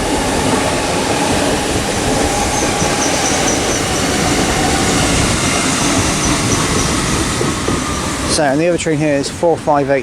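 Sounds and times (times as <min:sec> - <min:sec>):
train moving: 0:00.0 - 0:10.0.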